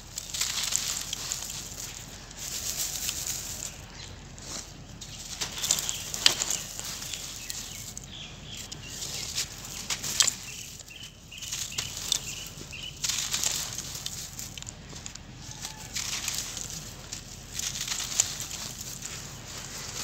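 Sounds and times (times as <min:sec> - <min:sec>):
dust sifting through wire grille: 0:00.0 - 0:20.0.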